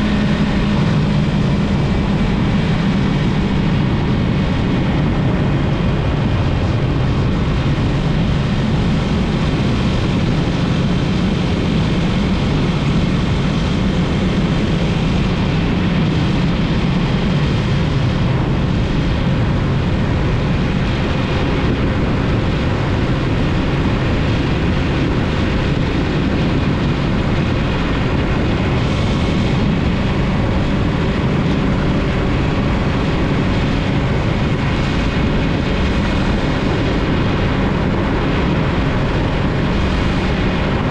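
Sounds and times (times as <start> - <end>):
motorcycle engine running: 0.0 - 40.9
riding wind noise: 0.0 - 40.9.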